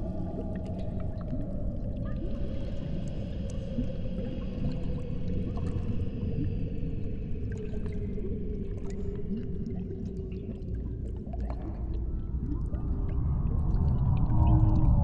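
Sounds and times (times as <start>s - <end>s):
low droning tone: 0.0s - 15.0s.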